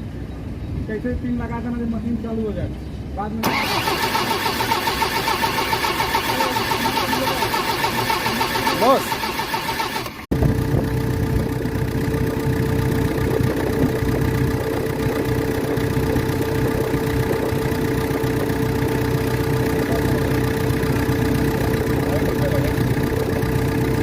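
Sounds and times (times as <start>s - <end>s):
diesel engine idling: 3.4s - 24.0s.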